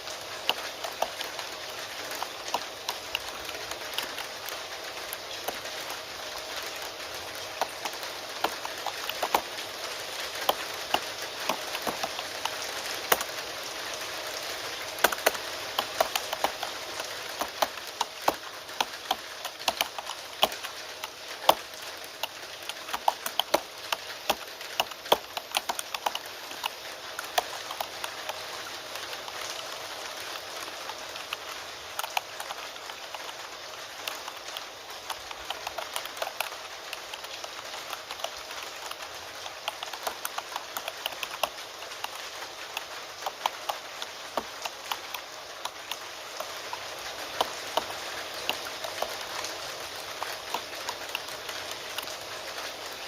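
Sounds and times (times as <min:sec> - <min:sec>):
steady rain: 0:00.0 - 0:53.0
keyboard typing: 0:07.4 - 0:13.4, 0:15.0 - 0:52.8.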